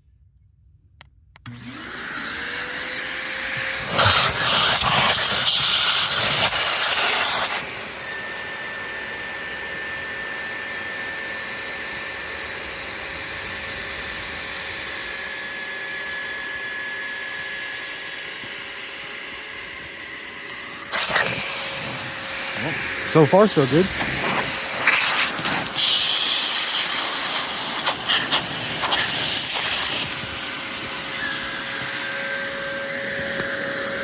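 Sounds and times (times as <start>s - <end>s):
electric air pump running: 1.4s - 34.0s.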